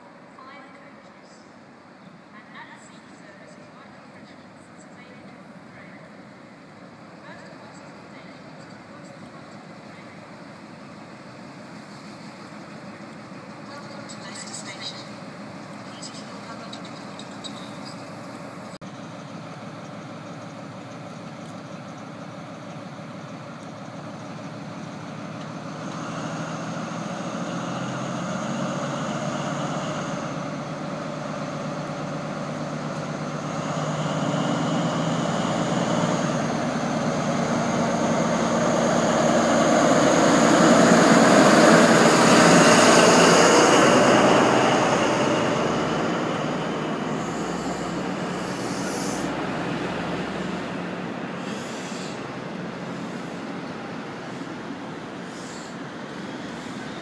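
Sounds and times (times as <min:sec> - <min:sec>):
diesel train engine: 0:00.0 - 0:57.0
high engine whine: 0:00.0 - 0:57.0
train coaches rolling by: 0:00.0 - 0:57.0.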